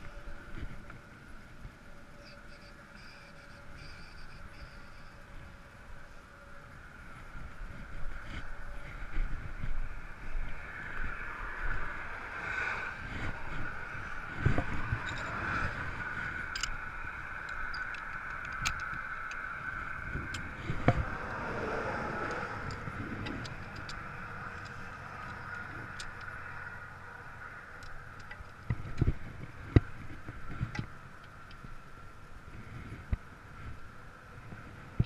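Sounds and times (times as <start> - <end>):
road traffic: 0.0 - 35.0
wind: 0.0 - 35.0.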